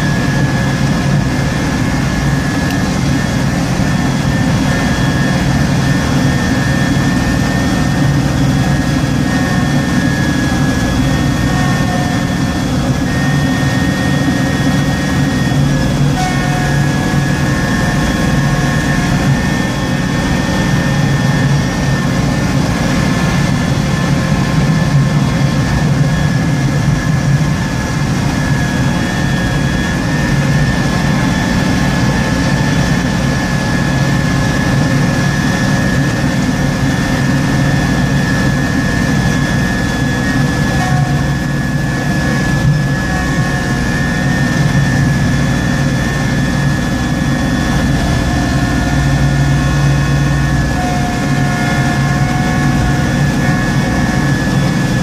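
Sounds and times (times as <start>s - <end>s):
steady high whine: 0.0s - 55.0s
tractor engine running under load: 0.0s - 55.0s.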